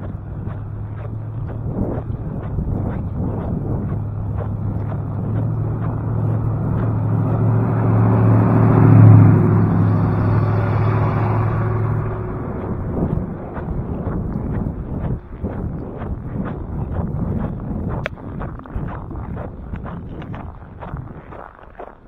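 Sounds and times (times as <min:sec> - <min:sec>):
footsteps crunching in snow: 0:00.0 - 0:09.1, 0:09.9 - 0:22.0
vehicle engine driving past: 0:00.0 - 0:21.3.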